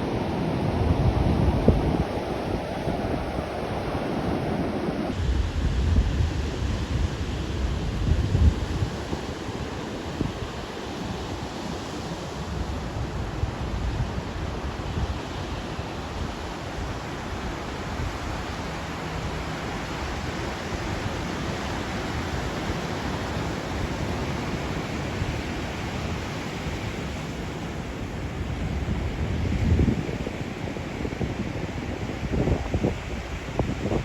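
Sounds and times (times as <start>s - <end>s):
wind rumbling on microphone: 0.0s - 34.0s.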